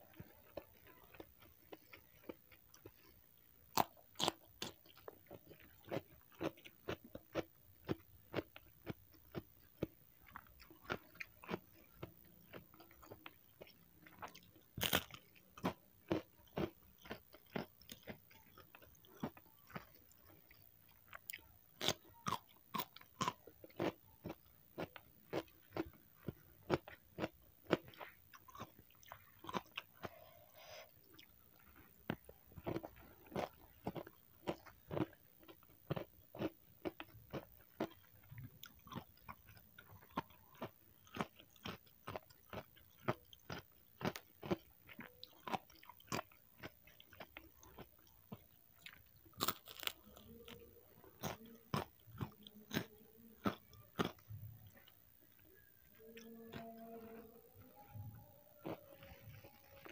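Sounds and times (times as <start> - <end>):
crunching crispy food: 3.7 - 56.6.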